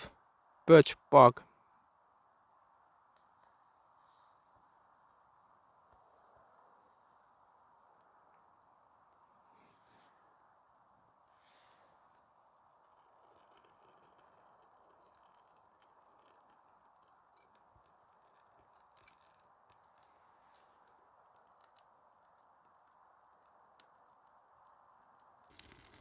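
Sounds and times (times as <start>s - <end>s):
low steady hiss: 0.0s - 26.0s
faint fire crackling: 1.5s - 26.0s.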